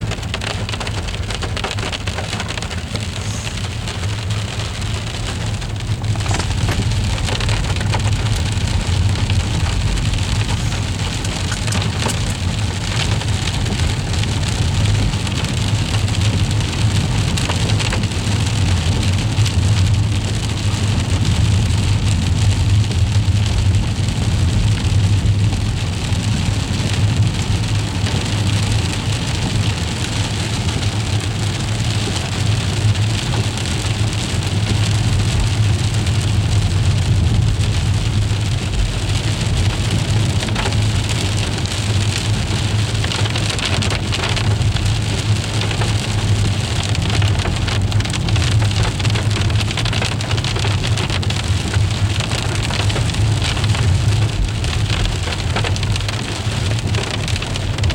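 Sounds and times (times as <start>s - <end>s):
constant low rumble: 0.0s - 57.9s
freezing rain hissing and ticking: 0.0s - 57.9s.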